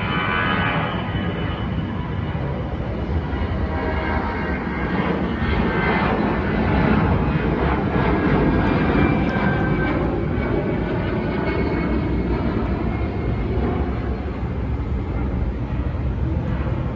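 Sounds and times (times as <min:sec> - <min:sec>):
jet engines roaring at takeoff: 0:00.0 - 0:16.9.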